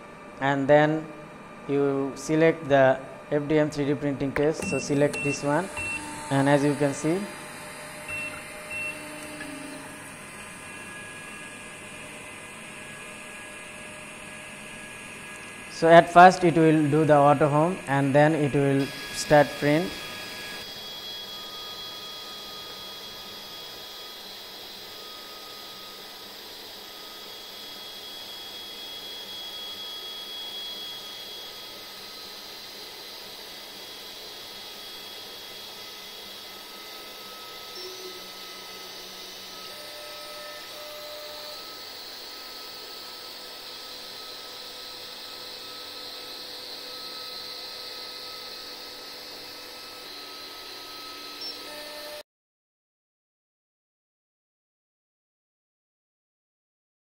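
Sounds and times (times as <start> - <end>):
printer motor whir: 4.2 - 52.2
thin high-pitched whines: 4.6 - 32.7, 34.8 - 52.2.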